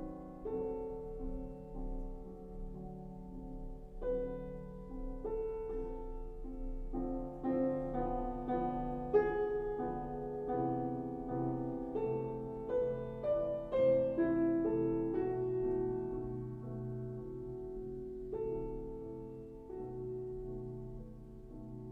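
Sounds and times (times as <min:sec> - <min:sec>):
slow solo piano: 0:00.0 - 0:21.9.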